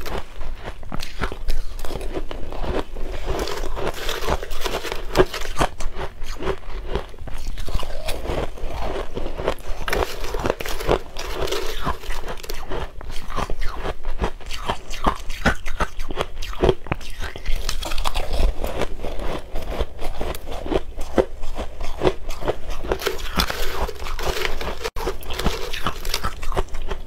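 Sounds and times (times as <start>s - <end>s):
ice crunching while chewed: 0.0s - 27.0s.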